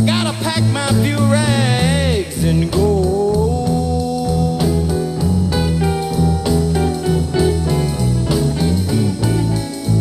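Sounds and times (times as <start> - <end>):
bass line: 0.0 - 10.0
guitar chords: 0.0 - 10.0
keyboard chords: 0.0 - 10.0.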